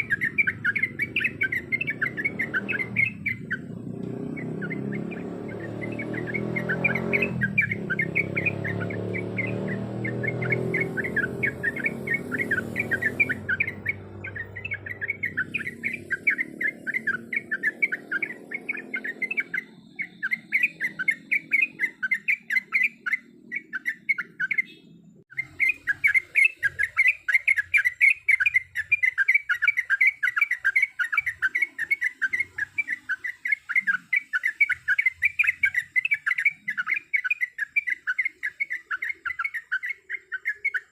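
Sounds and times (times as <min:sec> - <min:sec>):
bird chirping fast short notes: 0:00.0 - 0:40.9.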